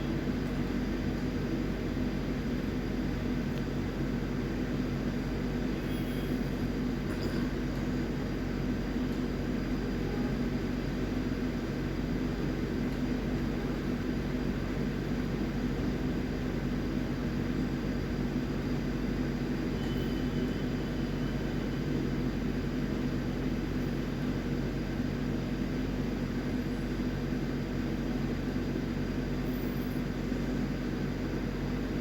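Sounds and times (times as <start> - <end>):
low mechanical drone with hum: 0.0 - 32.0.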